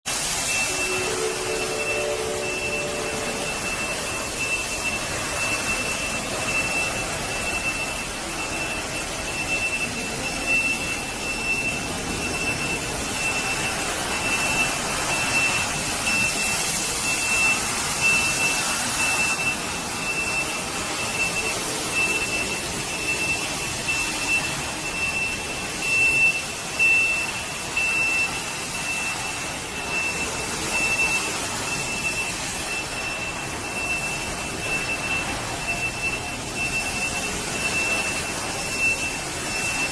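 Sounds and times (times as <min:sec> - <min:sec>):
floor-cleaning machine whooshing: 0:00.1 - 0:39.9
high warning beep: 0:00.1 - 0:39.9.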